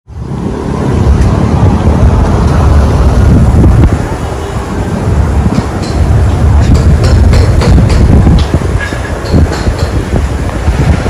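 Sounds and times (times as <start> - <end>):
diesel locomotive engine rumble: 0.1 - 11.0.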